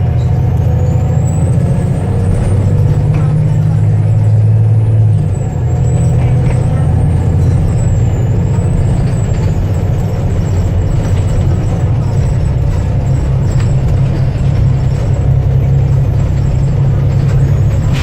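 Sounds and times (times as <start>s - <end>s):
bus diesel engine droning: 0.0s - 18.0s.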